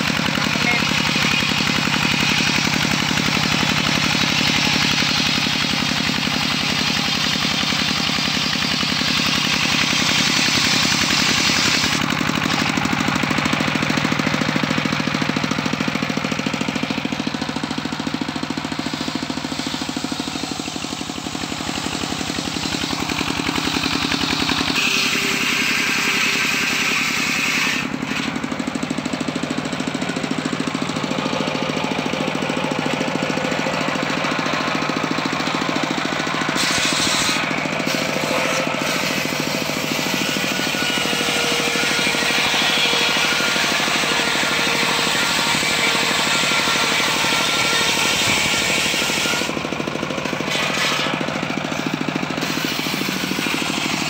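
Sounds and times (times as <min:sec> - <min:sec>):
saw blade hissing through log: 0:00.0 - 0:29.8, 0:35.8 - 0:54.0
sawmill engine knocking: 0:00.0 - 0:54.0.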